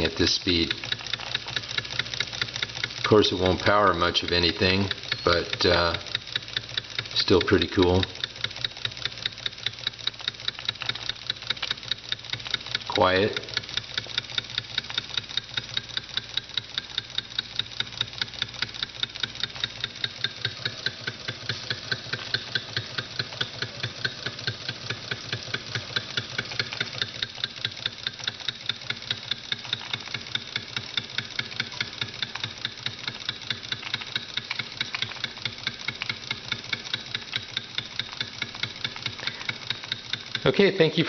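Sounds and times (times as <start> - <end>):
model steam engine running: 0.0 - 41.0.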